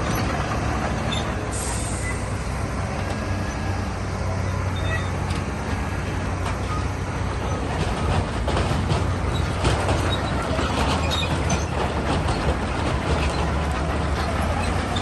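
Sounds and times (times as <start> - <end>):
diesel machine running: 0.0 - 15.0.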